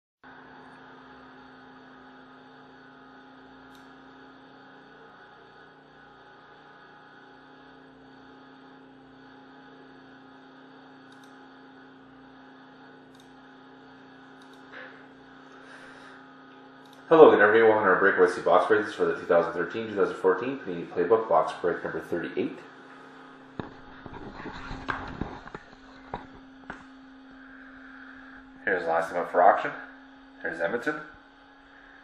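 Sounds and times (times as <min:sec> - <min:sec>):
low electrical hum: 0:00.3 - 0:32.0.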